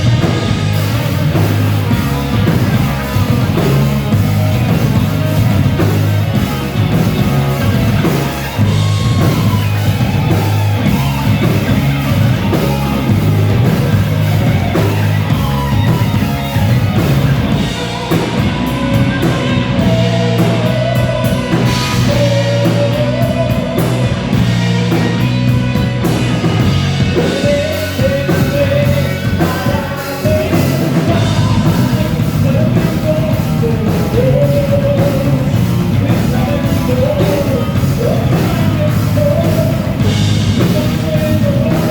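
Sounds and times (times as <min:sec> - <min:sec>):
person singing: 0:00.0 - 0:41.9
rock band playing live: 0:00.0 - 0:41.9.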